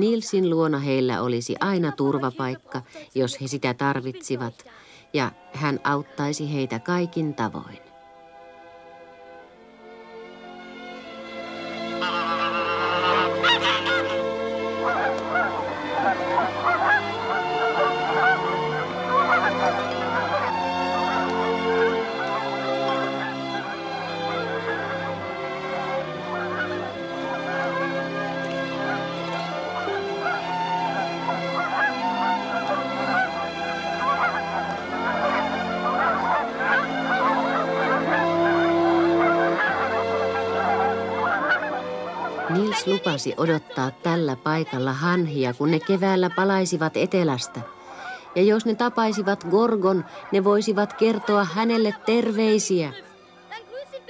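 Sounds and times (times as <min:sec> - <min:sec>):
background music: 0:00.0 - 0:54.0
geese honking and cackling: 0:03.6 - 0:54.0.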